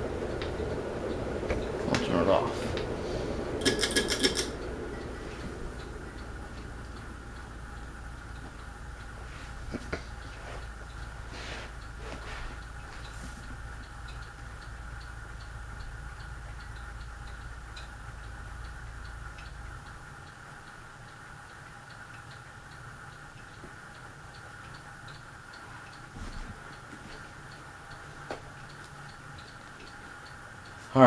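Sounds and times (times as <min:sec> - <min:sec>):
low hum: 0:00.0 - 0:30.7
mechanical ticking: 0:00.0 - 0:31.0.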